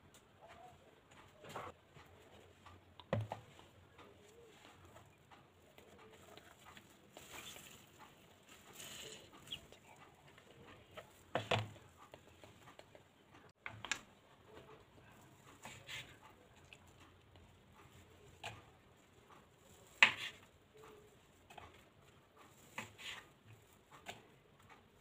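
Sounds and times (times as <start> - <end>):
quiet rustling: 0.0 - 25.0.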